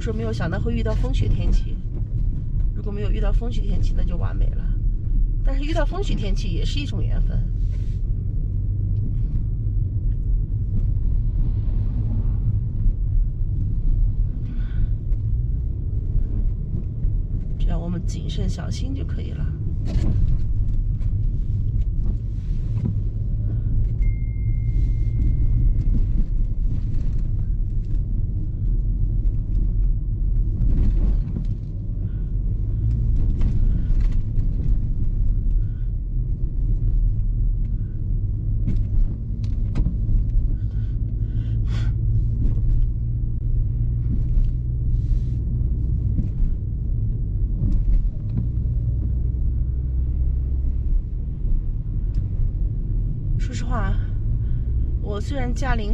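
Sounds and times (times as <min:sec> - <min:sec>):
car driving rumble from inside: 0:00.0 - 0:55.9.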